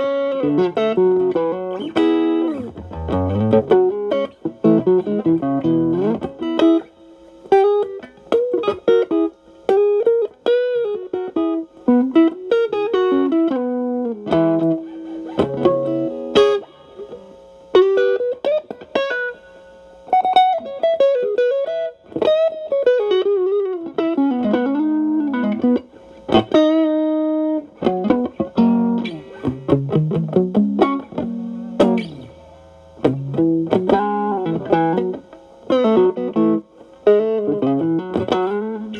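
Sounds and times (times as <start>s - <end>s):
overdriven electric guitar blues lead: 0.0s - 38.9s.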